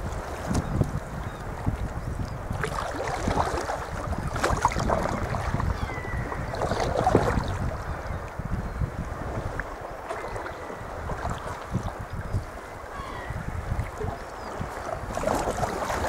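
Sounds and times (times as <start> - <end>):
water splashing and lapping: 0.0 - 7.9, 9.1 - 12.9, 13.7 - 16.0
wind rumble on microphone: 0.0 - 16.0.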